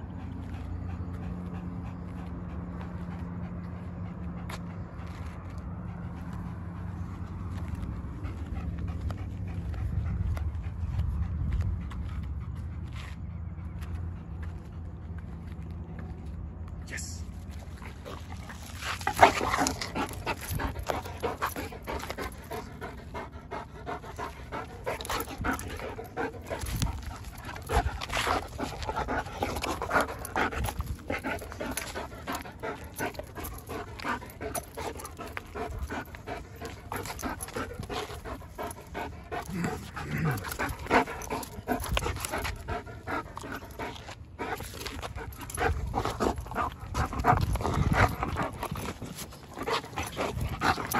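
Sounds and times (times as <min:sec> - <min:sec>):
dog panting: 0:00.0 - 0:16.4, 0:17.2 - 0:50.9.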